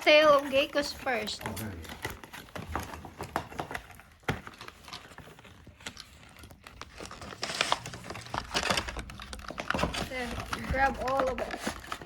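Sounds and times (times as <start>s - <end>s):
packaging rustle: 0.0s - 12.0s.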